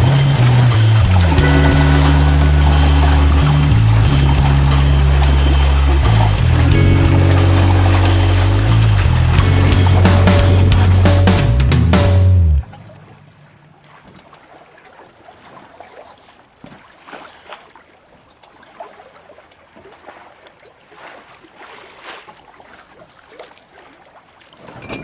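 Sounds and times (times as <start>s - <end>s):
water splashing along a hull: 0.0s - 25.0s.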